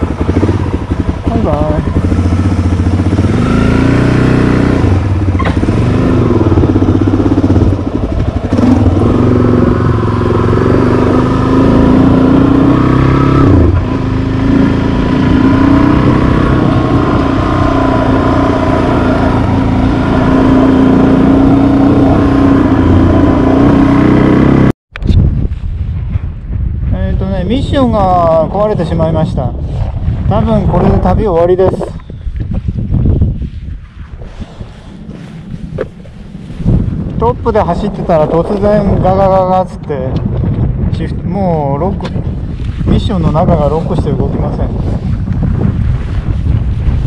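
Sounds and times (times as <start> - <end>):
motorcycle engine accelerating: 0.0 - 24.8, 27.2 - 47.0.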